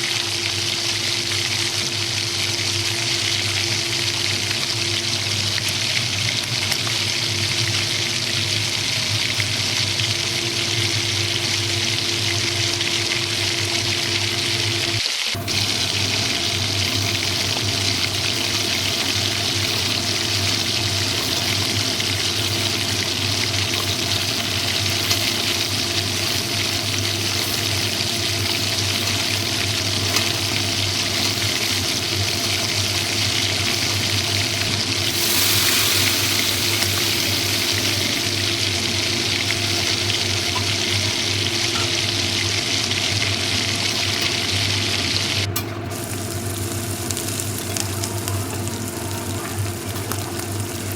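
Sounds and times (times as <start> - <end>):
food sizzling in hot oil: 0.0 - 50.9
low hum: 1.5 - 50.8.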